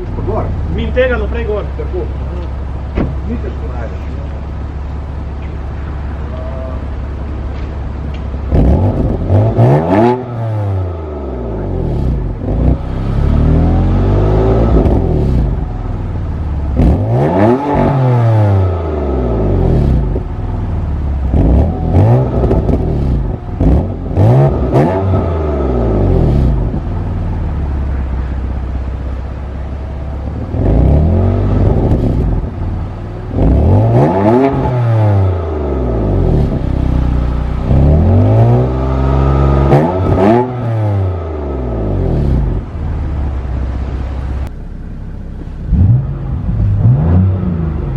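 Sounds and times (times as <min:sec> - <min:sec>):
car engine revving: 0:00.0 - 0:47.9
exhaust crackles: 0:00.0 - 0:47.9.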